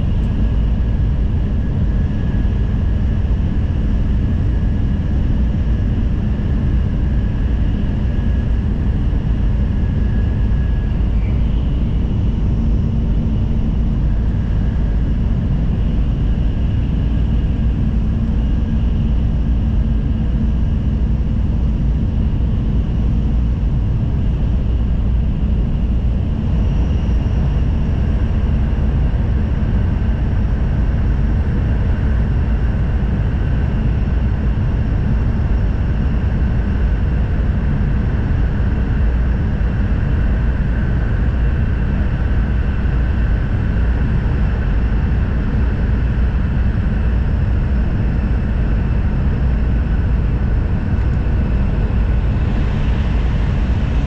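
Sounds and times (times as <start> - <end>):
faint high whine: 0.0 - 31.5, 39.1 - 54.0.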